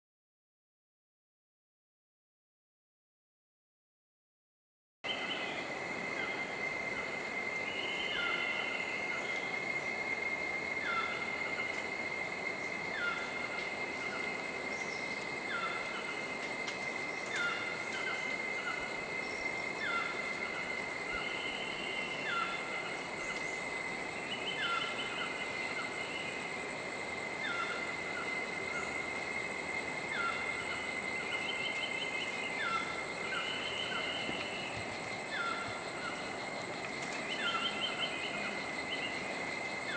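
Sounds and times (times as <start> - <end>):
constant rushing hiss: 5.1 - 39.9
high-pitched insect drone: 5.1 - 39.9.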